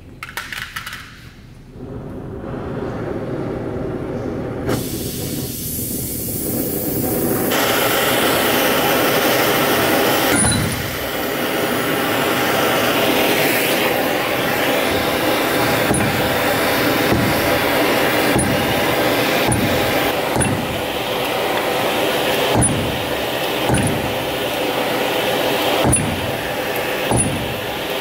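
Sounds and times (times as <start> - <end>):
gas torch flame hissing: 1.7 - 28.0.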